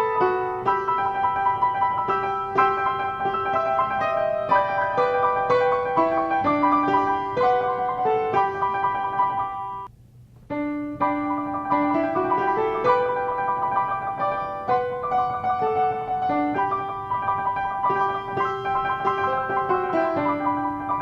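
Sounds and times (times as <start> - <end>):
piano music: 0.0 - 9.9, 10.5 - 21.0.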